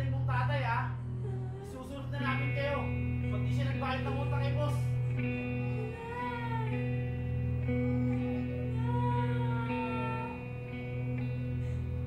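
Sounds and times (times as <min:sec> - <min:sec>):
gliding melodic line: 0:00.0 - 0:12.0
low sustained drone: 0:00.0 - 0:12.0.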